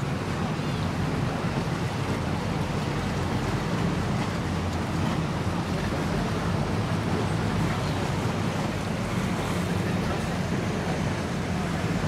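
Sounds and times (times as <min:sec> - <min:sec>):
outdoor wind: 0:00.0 - 0:12.0
water noise: 0:00.0 - 0:12.0.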